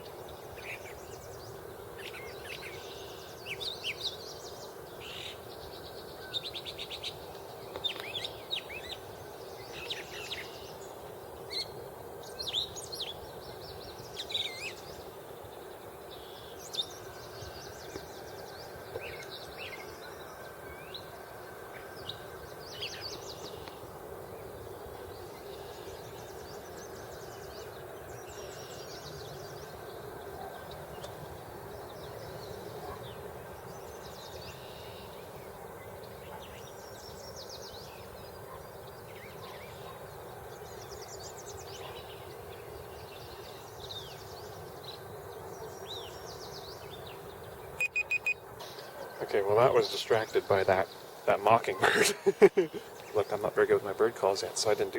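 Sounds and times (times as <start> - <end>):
songbirds singing and calling: 0.0 - 54.9.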